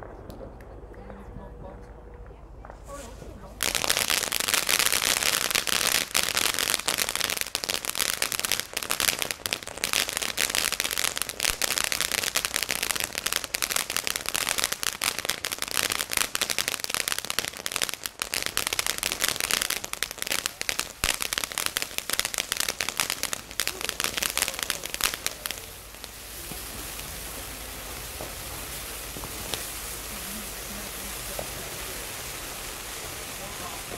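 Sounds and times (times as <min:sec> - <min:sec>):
firework crackling: 0:00.0 - 0:33.9
steady hiss: 0:02.8 - 0:33.9.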